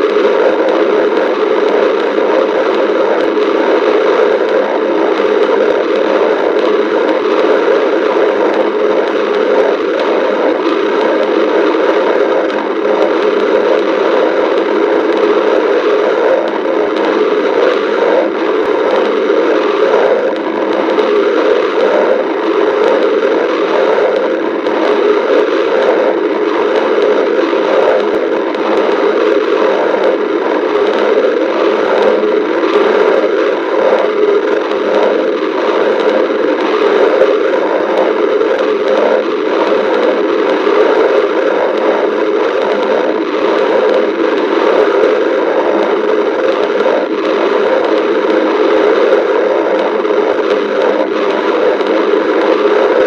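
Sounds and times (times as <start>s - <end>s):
stomach growling: 0.0s - 53.0s.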